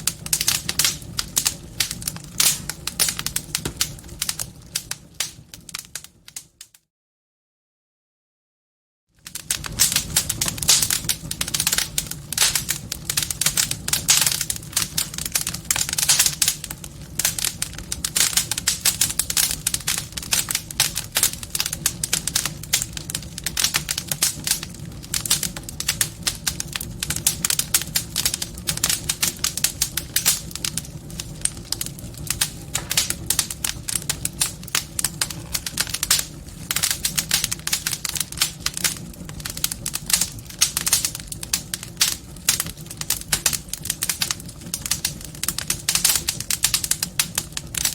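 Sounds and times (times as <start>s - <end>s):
wood fire crackling: 0.0s - 6.8s, 9.2s - 47.9s.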